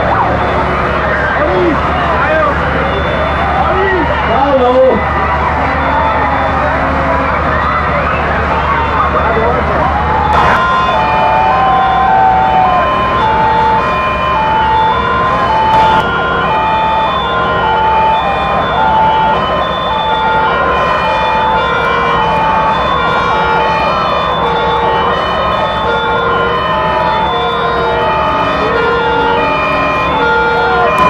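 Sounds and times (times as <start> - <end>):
steady dense noise: 0.0 - 28.8
fire truck two-tone sirens: 0.0 - 31.0.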